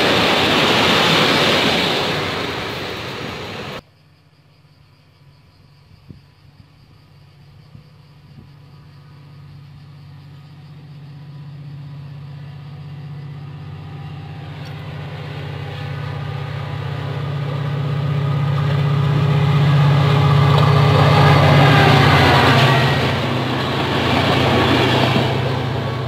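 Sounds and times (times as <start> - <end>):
locomotive engine hum: 0.0 - 3.8, 8.8 - 26.0
train rumble: 0.0 - 3.8, 6.8 - 26.0.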